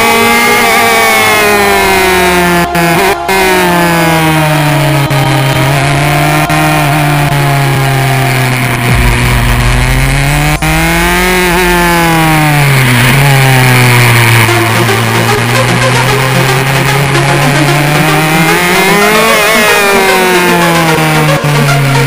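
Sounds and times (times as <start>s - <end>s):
racing car engine revving: 0.0s - 22.0s.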